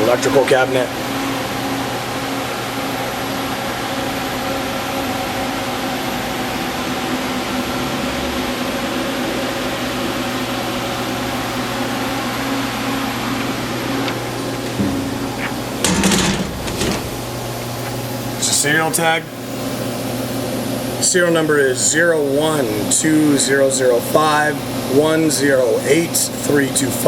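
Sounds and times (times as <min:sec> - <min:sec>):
machine hum and fan noise: 0:00.0 - 0:27.0.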